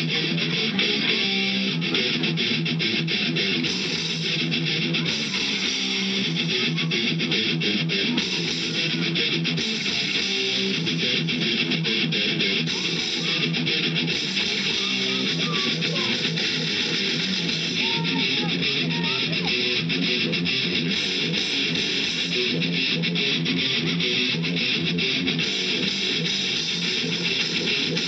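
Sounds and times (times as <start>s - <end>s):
guitar-led music: 0.0s - 28.0s.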